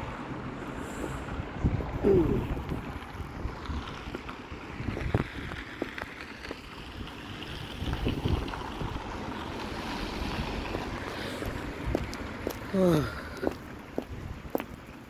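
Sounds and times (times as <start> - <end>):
wind buffeting microphone: 1.2 - 15.0.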